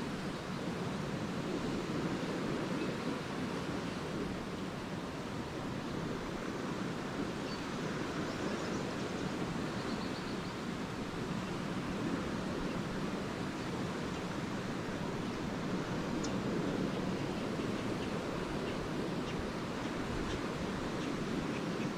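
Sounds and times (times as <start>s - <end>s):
lake waves washing onto beach: 0.0s - 21.9s.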